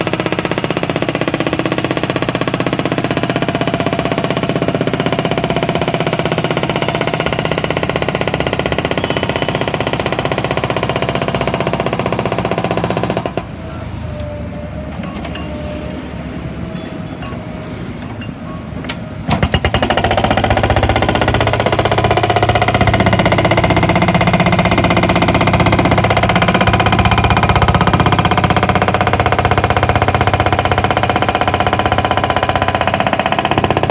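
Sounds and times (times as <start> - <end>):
hydraulic breaker hammering tarmac: 0.0 - 13.6, 16.6 - 33.9
engine running: 2.0 - 33.9.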